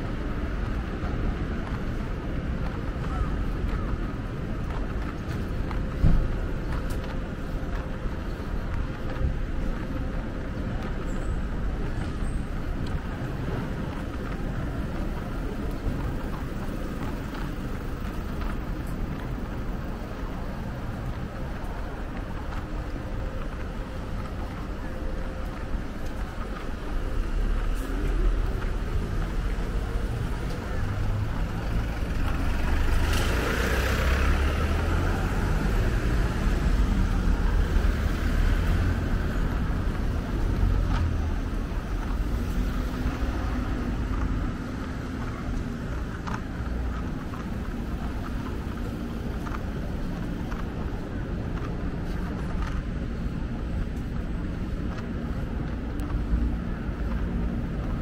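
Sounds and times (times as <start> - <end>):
city hum: 0.0 - 58.0
passing vehicle rumble: 0.0 - 58.0.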